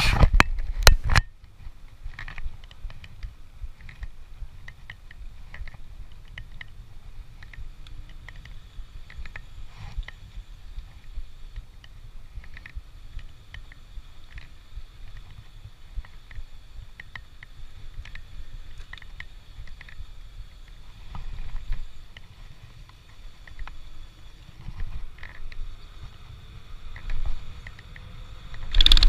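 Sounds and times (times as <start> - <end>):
bicycle riding rumble: 0.0 - 29.0
light clicks and ticks: 0.4 - 23.9, 24.7 - 29.0.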